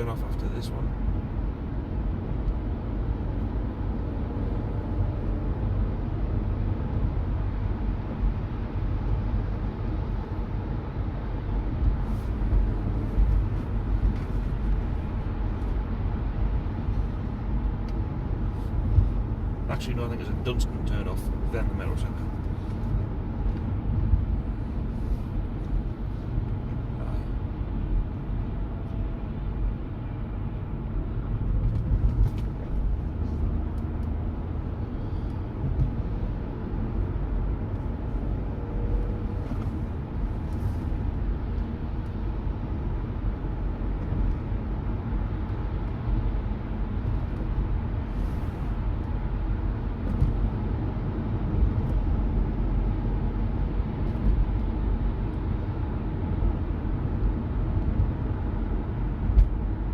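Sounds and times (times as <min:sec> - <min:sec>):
low rumble of car tyres and engine: 0:00.0 - 0:59.9.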